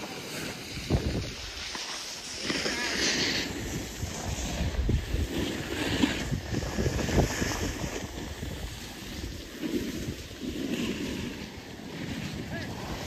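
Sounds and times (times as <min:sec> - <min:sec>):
skis sliding over slushy snow: 0:00.0 - 0:13.0
wind buffeting microphone: 0:00.6 - 0:01.7, 0:03.1 - 0:13.0.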